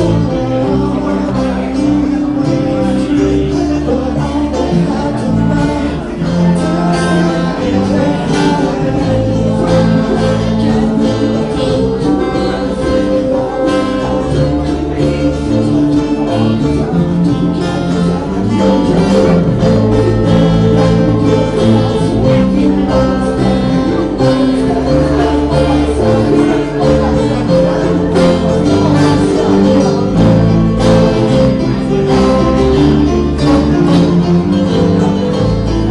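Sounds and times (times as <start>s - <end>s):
band playing with guitars: 0.0s - 35.9s
person singing: 0.0s - 35.9s.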